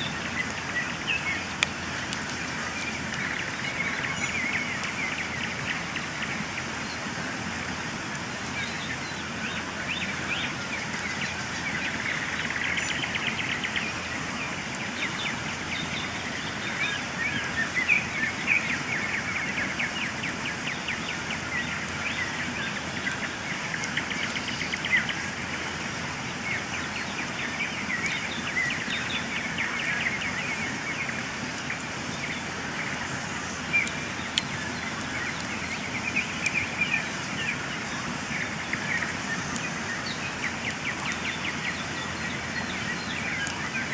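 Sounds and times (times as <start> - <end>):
birds chirping and trilling: 0.0 - 7.1, 8.4 - 43.9
campfire crackling and popping: 0.0 - 43.9.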